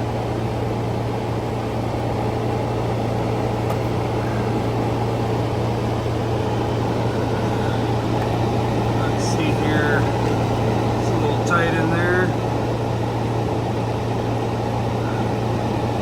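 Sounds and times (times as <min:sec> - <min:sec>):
air conditioner running: 0:00.0 - 0:16.0.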